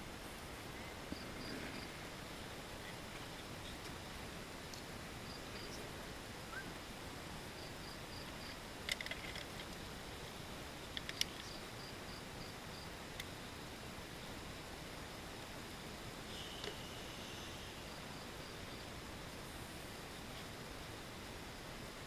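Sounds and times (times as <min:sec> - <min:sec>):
background hiss: 0:00.0 - 0:22.0
faint insect chirping: 0:00.1 - 0:22.0.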